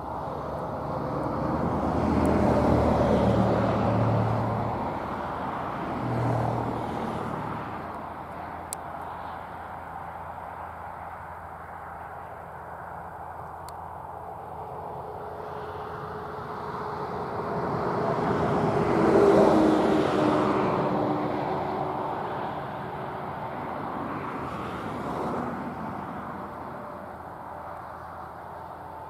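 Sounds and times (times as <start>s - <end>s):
tractor diesel engine passing: 0.0s - 29.0s.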